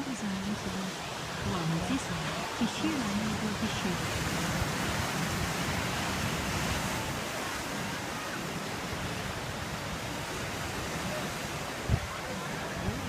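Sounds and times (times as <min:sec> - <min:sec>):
surf washing against rocks: 0:00.0 - 0:13.0.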